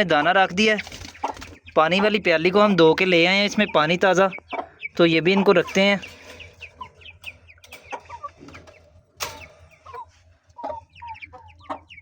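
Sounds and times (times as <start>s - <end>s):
chickens clucking: 0.0s - 12.0s
chicks cheeping: 0.0s - 12.0s.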